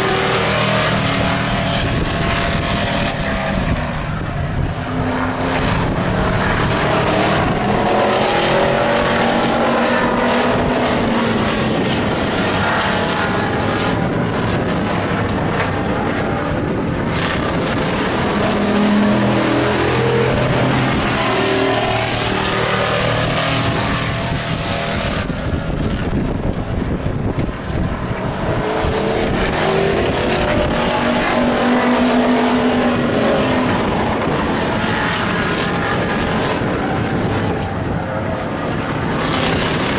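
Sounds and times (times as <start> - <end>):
race truck engines passing: 0.0 - 39.9.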